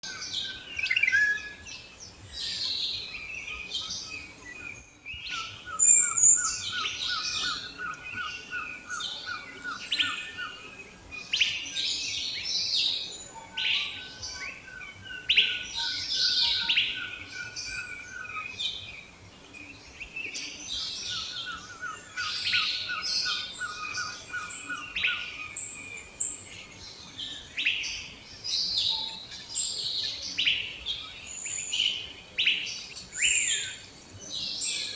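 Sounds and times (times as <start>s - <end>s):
birds singing and chirping: 0.0s - 34.9s.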